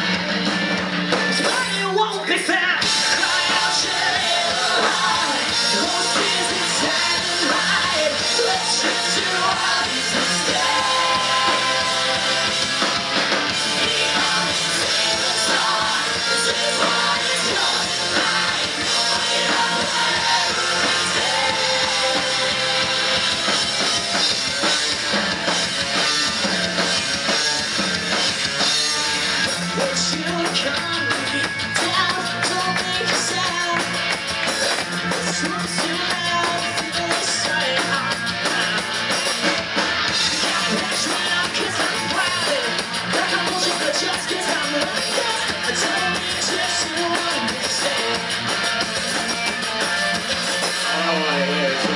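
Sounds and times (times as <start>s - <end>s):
drum kit: 0.0s - 51.9s
electric guitars: 0.0s - 51.9s
singer: 1.3s - 23.3s, 29.7s - 49.4s.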